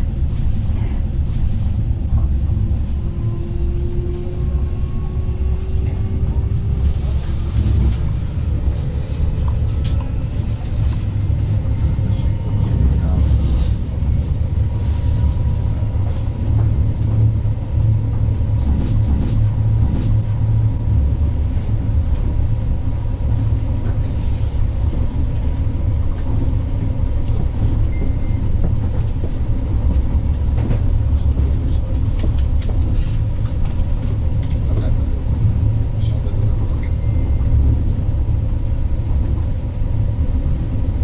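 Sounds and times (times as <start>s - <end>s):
train running gear rumbling on rails: 0.0s - 41.0s.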